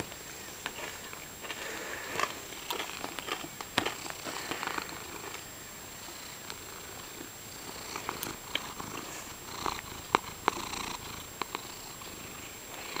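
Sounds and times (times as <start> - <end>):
cat purring: 1.6 - 13.0.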